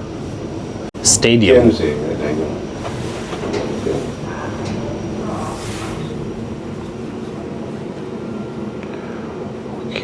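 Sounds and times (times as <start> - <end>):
elevator mechanical hum: 0.0 - 10.0.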